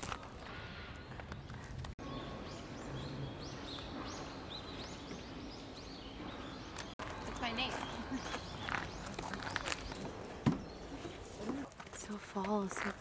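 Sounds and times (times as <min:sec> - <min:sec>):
outdoor background noise: 0:00.0 - 0:13.0
small birds chirping: 0:00.2 - 0:13.0.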